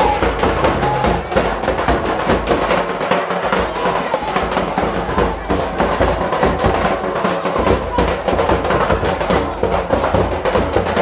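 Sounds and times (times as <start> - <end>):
drums playing steady beat: 0.0 - 11.0.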